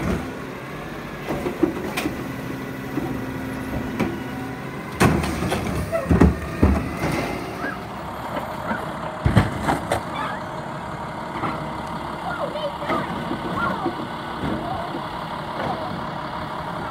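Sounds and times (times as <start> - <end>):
garbage truck running: 0.0 - 16.9.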